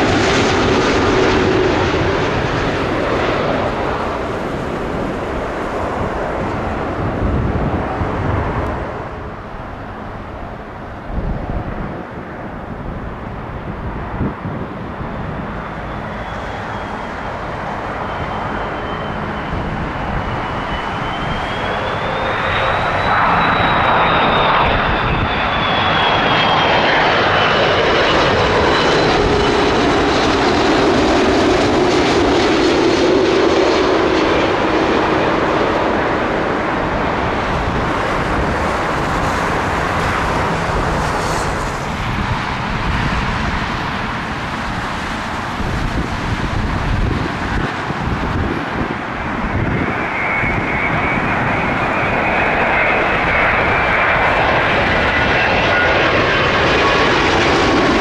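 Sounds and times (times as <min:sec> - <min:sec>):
jet airliner passing overhead: 0:00.0 - 0:58.0.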